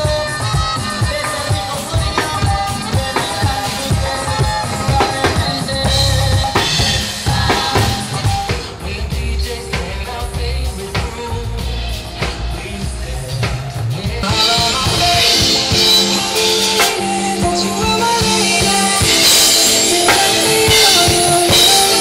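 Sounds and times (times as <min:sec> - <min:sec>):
amplified music with singing: 0:00.0 - 0:22.0
drum kit playing: 0:00.0 - 0:22.0.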